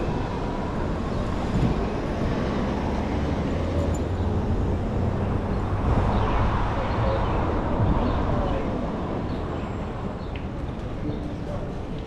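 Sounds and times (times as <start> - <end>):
engine hum: 0.0 - 12.0
low rumble of motor vehicles: 0.0 - 12.0.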